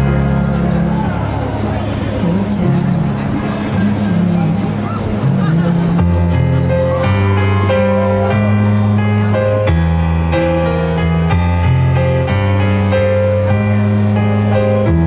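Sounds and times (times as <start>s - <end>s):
keyboard chords through a pa: 0.0s - 15.0s
low bass notes: 0.0s - 15.0s.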